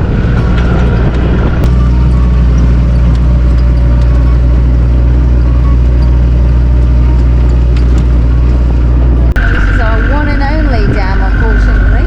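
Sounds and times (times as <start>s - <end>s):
vehicle engine and tyre drone: 0.0s - 12.0s.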